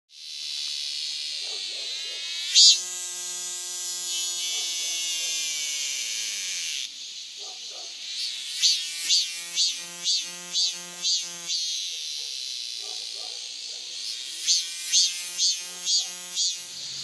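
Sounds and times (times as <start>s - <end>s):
cicada buzzing: 0.1s - 17.0s.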